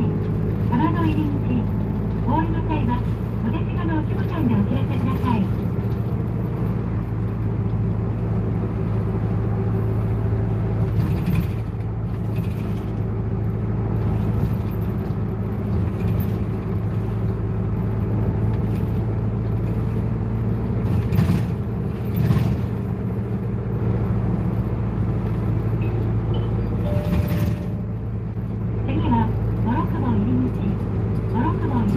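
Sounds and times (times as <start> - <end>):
bus engine drone: 0.0 - 31.9
road noise: 0.0 - 31.9.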